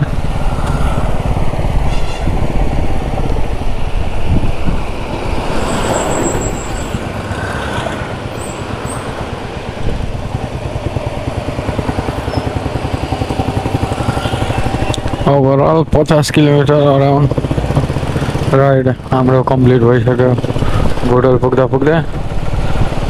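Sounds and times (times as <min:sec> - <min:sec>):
motorcycle engine running: 0:00.0 - 0:23.0
road and traffic noise: 0:00.0 - 0:23.0.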